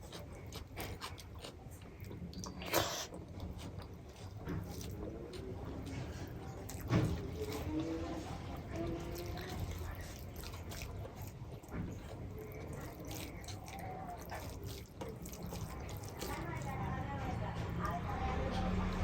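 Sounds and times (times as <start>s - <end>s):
faint background voices: 0.0s - 19.0s
wet squishing eating sounds: 0.0s - 19.0s.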